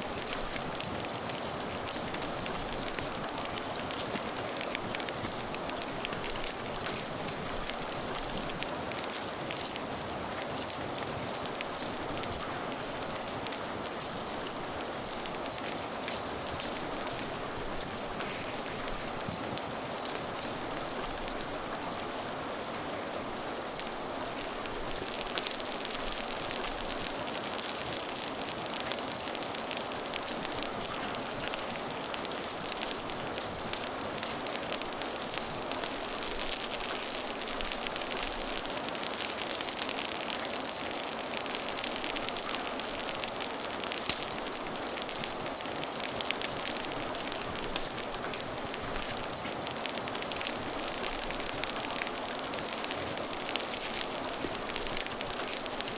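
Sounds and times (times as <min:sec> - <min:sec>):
steady rain falling: 0:00.0 - 0:55.9
wood fire crackling: 0:00.0 - 0:55.9.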